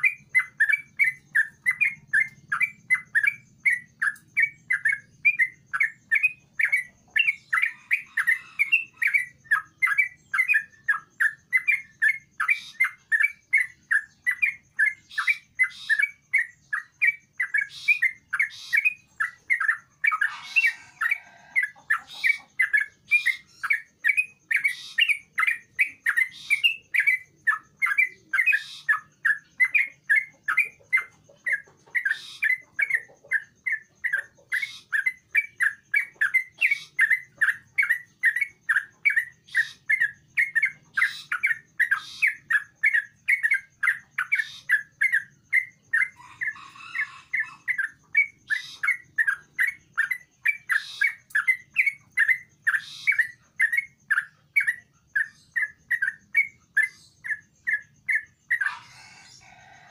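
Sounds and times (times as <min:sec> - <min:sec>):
bird chirping song: 0:00.0 - 0:59.9.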